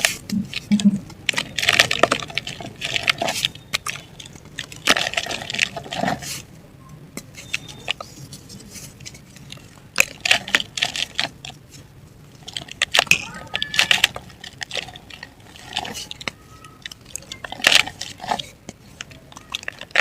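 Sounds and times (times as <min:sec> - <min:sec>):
dry mud crumbling: 0:00.0 - 0:06.5, 0:07.2 - 0:20.0.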